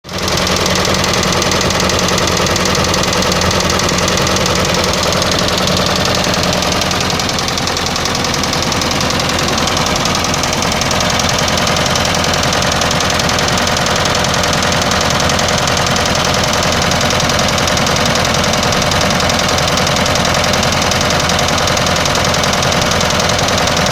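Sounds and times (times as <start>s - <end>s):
diesel engine knocking: 0.0s - 23.9s.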